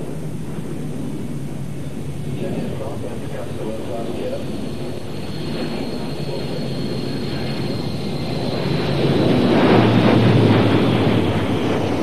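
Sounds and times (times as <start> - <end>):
high jet whine dropping in pitch: 0.0 - 12.0
jet airliner flypast rumble: 0.0 - 12.0.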